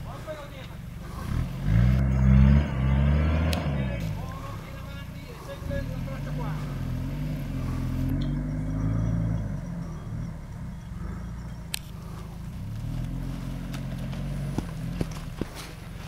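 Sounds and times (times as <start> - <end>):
engine revving under load: 0.7 - 16.0.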